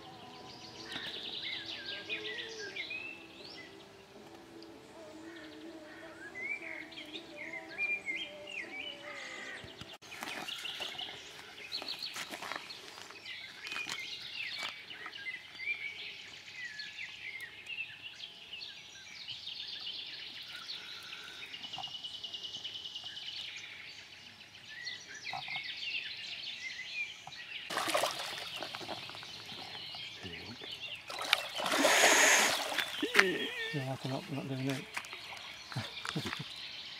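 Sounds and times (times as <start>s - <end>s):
birds singing and chirping: 0.0s - 36.9s.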